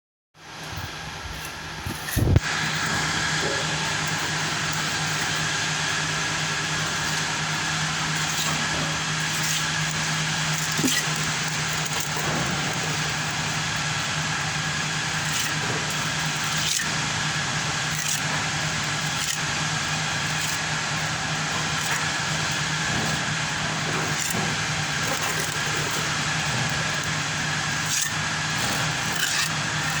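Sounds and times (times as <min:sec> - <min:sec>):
machine humming and hissing: 0:00.4 - 0:30.0.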